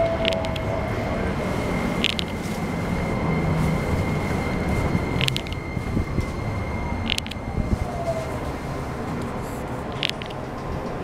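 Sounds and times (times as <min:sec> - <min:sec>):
train rail and wheel rumble: 0:00.0 - 0:11.0.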